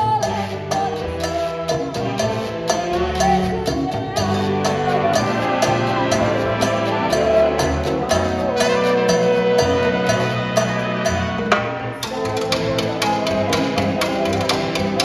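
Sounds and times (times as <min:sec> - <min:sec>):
latin jazz band playing ballad: 0:00.0 - 0:15.0.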